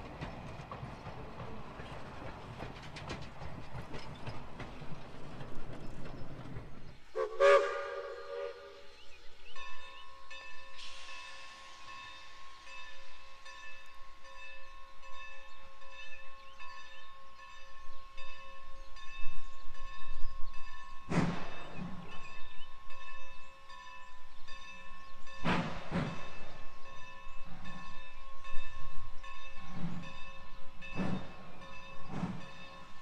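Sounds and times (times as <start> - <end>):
distant steam locomotive chuffs: 0.0 - 33.0.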